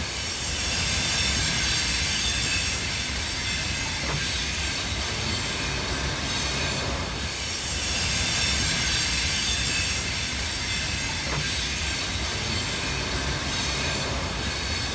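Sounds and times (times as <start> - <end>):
freight train wagons rolling: 0.0 - 14.9.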